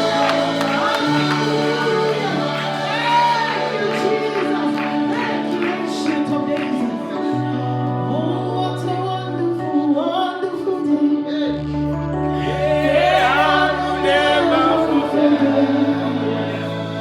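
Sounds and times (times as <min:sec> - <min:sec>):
held bass notes: 0:00.0 - 0:09.8, 0:11.4 - 0:17.0
woman singing gospel song: 0:00.0 - 0:11.5, 0:12.4 - 0:17.0.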